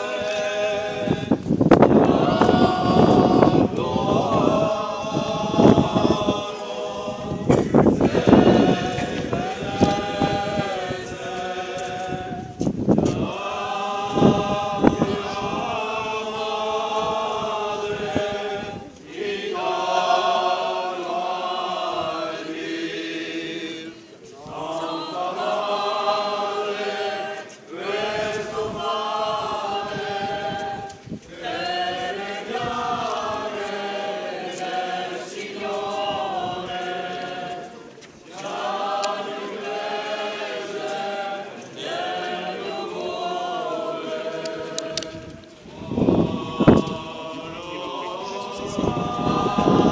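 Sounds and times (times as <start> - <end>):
group chanting a hymn: 0.0 - 49.9.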